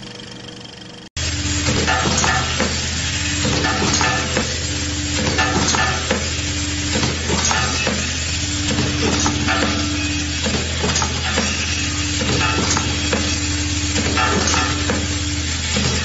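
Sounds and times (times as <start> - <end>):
machine motor hum: 0.0 - 16.0.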